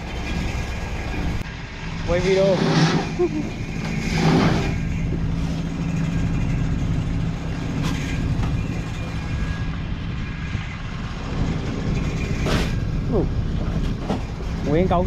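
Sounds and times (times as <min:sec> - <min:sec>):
diesel boat engine droning: 0:00.0 - 0:15.0.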